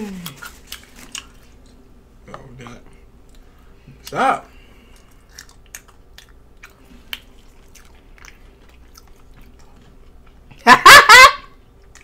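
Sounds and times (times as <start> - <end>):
faint chewing: 0.0 - 10.6, 11.7 - 12.0.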